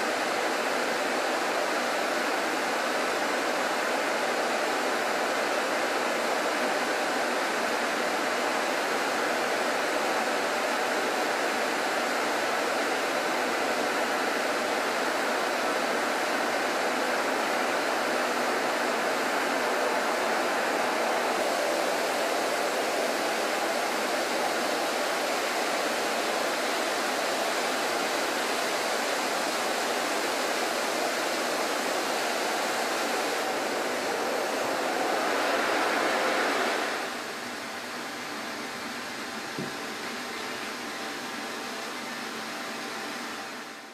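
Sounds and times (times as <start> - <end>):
coolant spraying hiss: 0.0 - 43.7.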